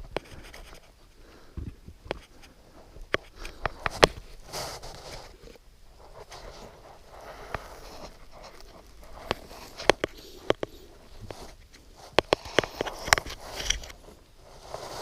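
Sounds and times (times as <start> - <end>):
soft rustle: 0.0 - 15.0.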